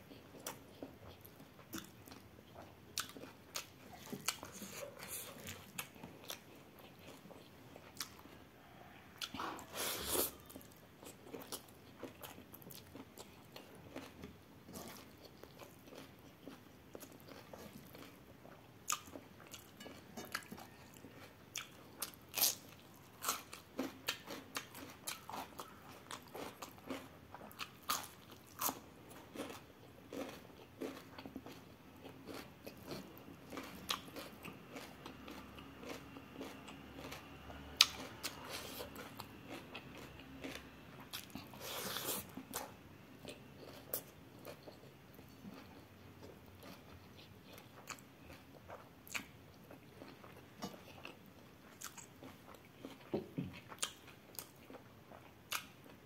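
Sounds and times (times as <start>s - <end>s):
chewing food: 0.0s - 56.0s.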